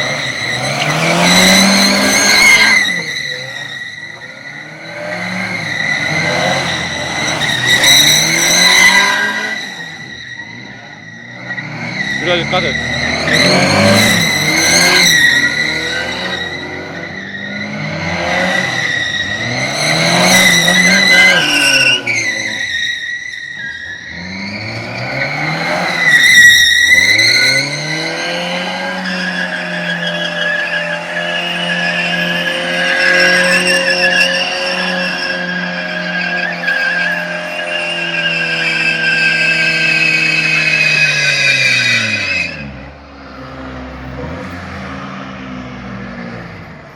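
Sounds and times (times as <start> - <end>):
car engine revving: 0.0 - 23.0, 23.6 - 46.9.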